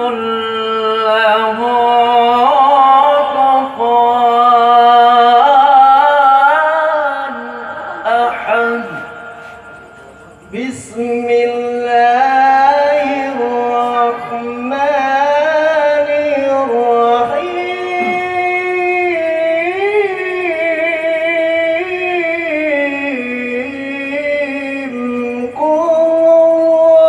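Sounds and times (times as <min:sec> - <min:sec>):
person chanting melismatic notes: 0:00.0 - 0:27.0.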